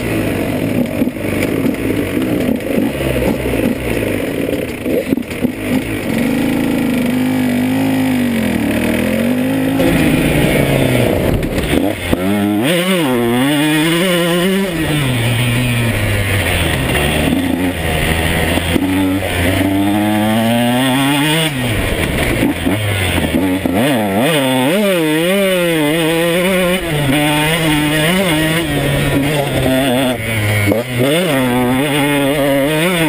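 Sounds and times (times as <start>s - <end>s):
two-stroke motorcycle engine revving: 0.0s - 33.0s.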